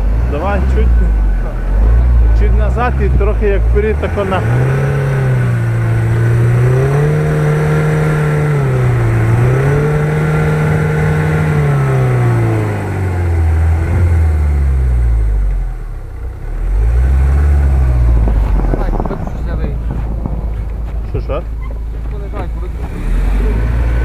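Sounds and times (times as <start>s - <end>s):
truck engine revving in snow: 0.0s - 21.3s, 22.7s - 24.0s.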